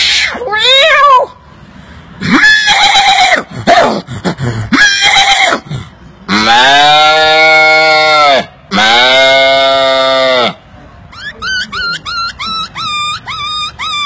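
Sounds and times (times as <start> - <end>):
man imitating animal calls: 2.2 - 14.0.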